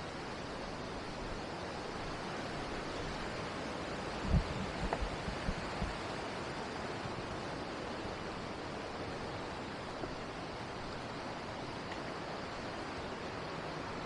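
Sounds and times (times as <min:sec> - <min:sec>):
fast-flowing stream rushing: 0:00.0 - 0:14.0.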